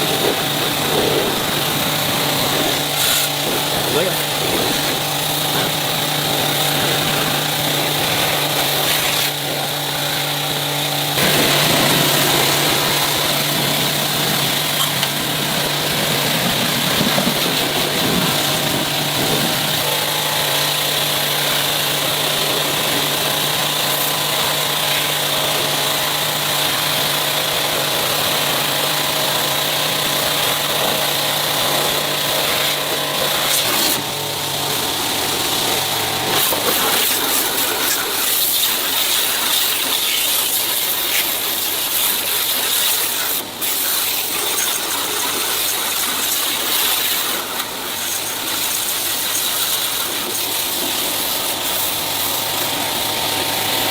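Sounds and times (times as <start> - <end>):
power tool running: 0.0 - 53.9.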